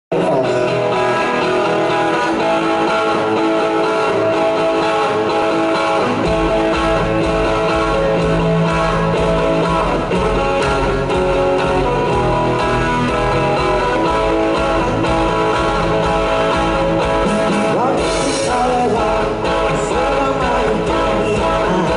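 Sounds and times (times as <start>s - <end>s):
electric guitars: 0.1s - 21.9s
live rock band: 0.1s - 21.9s.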